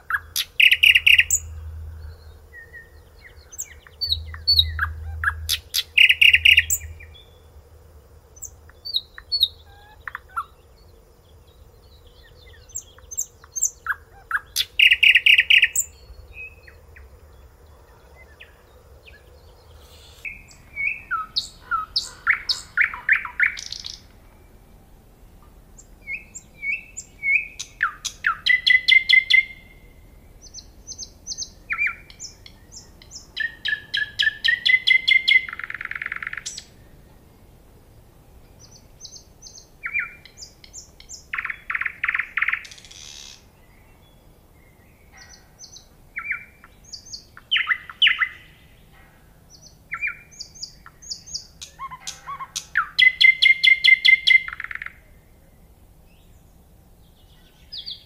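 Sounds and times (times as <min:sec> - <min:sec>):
nightingale singing: 0:00.0 - 0:37.3, 0:38.4 - 0:58.0.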